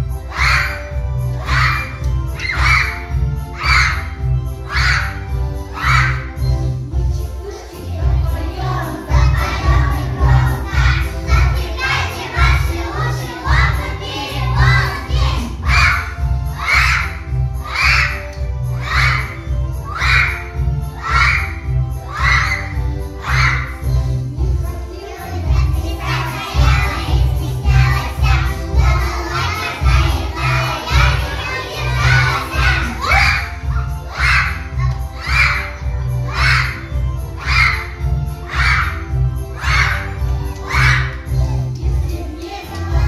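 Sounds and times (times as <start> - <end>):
children singing in shouted unison: 0.0 - 6.4, 7.4 - 43.0.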